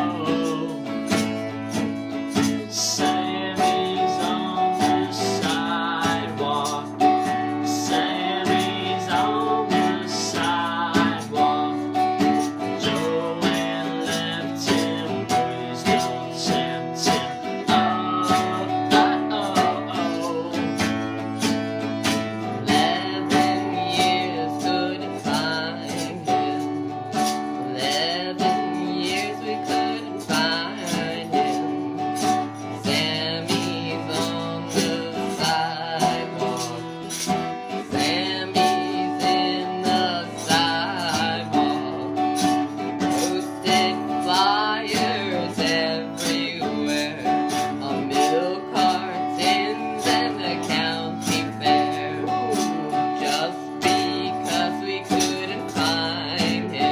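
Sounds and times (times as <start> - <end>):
acoustic guitar strumming: 0.0 - 56.9.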